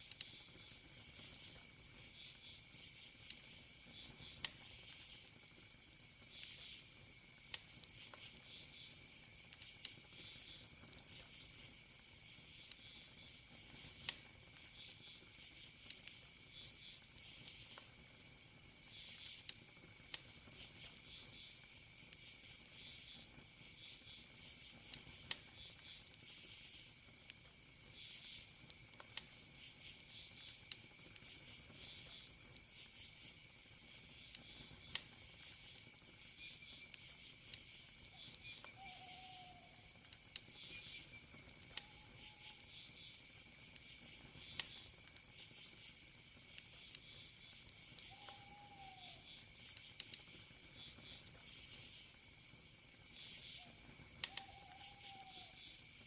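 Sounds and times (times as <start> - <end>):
campfire crackling and popping: 0.0 - 56.0
crickets chirping: 0.0 - 56.0
high insect trill: 0.2 - 56.0.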